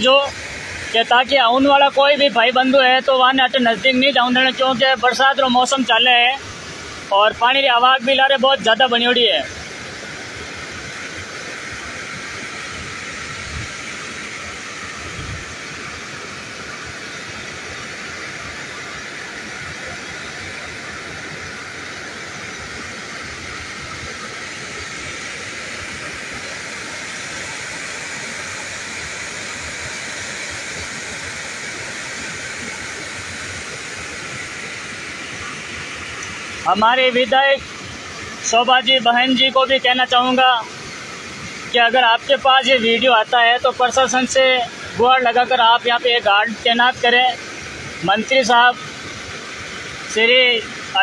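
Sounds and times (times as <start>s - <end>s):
water rushing over dam spillway: 0.0s - 51.0s.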